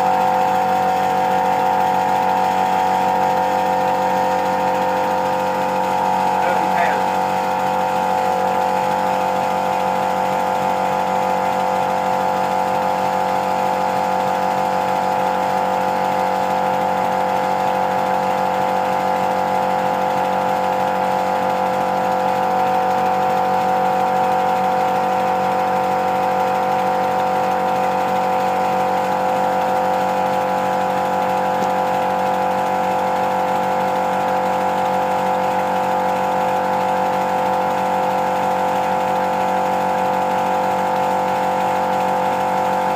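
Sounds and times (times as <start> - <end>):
constant mechanical hum: 0.0 - 42.9.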